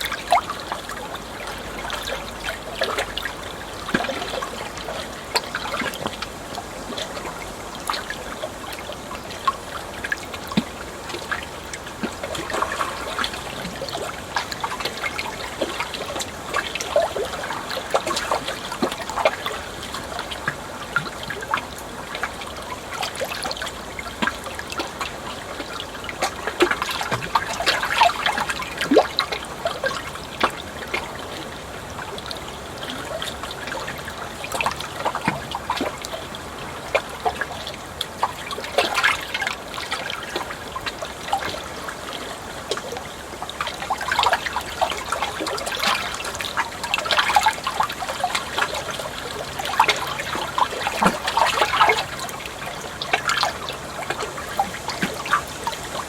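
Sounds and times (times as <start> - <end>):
water trickling and gurgling: 0.0 - 56.0.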